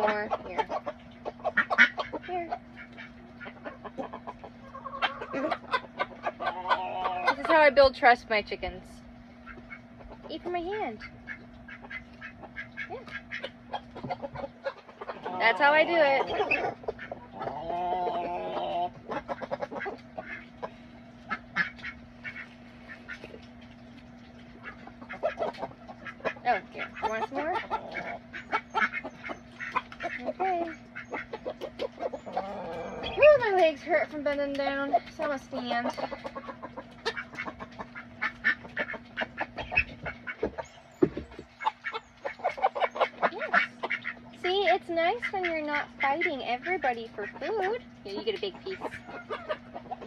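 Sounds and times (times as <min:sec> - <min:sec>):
poultry calling: 0:00.0 - 0:08.0, 0:09.3 - 0:33.6, 0:34.9 - 0:50.0
chickens clucking: 0:00.0 - 0:50.0
faint steady hum: 0:00.0 - 0:50.0.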